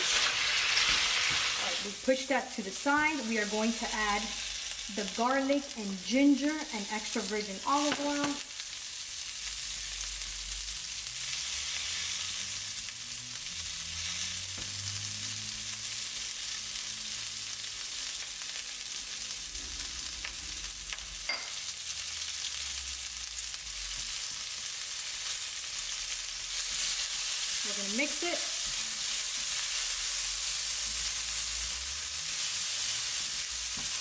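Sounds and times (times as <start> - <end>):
garlic sizzling in hot oil: 0.0 - 34.0.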